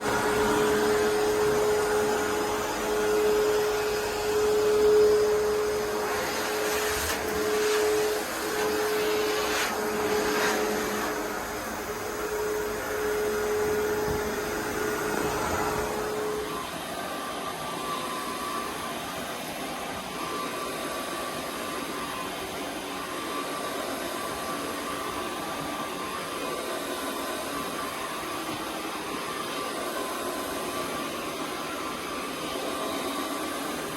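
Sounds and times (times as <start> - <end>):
carpet cleaning vacuum running: 0.0 - 33.9.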